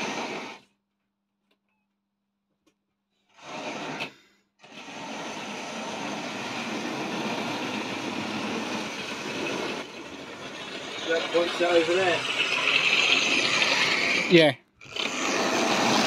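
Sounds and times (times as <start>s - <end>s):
model train motor whirring: 0.0s - 0.6s, 3.4s - 16.0s.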